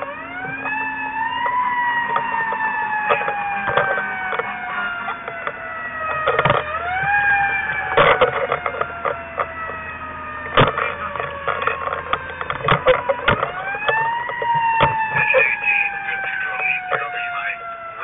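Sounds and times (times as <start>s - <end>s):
fire engine siren: 0.0s - 18.0s.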